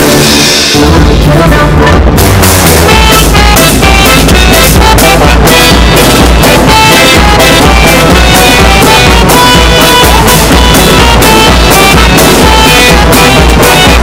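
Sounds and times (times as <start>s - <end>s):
music with drums and beat: 0.0s - 14.0s.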